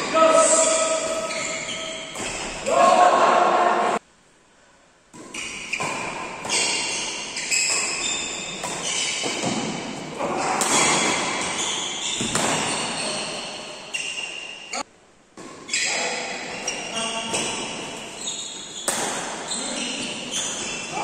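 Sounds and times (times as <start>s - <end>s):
shoes squeaking on court: 0.3s - 2.8s, 5.2s - 21.0s
racquets hitting shuttlecock: 0.4s - 2.7s, 5.1s - 14.8s, 15.4s - 21.0s.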